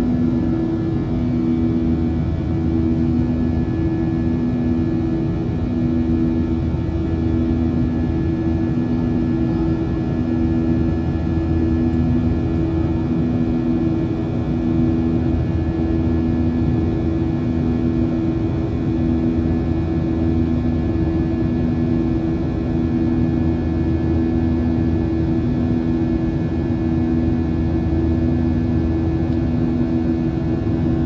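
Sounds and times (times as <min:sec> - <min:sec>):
jet engines droning in cabin: 0:00.0 - 0:31.0.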